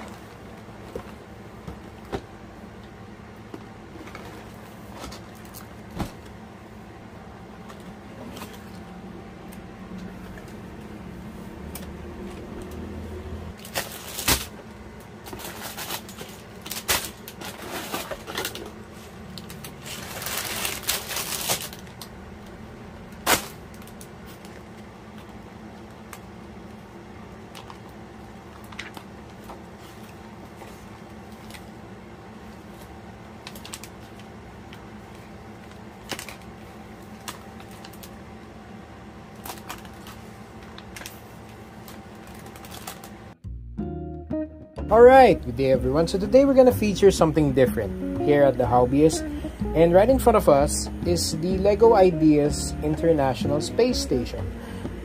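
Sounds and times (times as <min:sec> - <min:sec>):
steady low hum: 0:00.0 - 0:43.7, 0:44.8 - 0:55.0.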